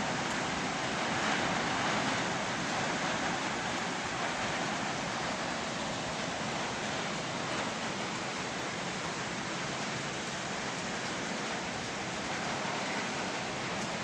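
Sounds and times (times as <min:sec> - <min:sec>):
rain falling steadily: 0:00.0 - 0:14.0.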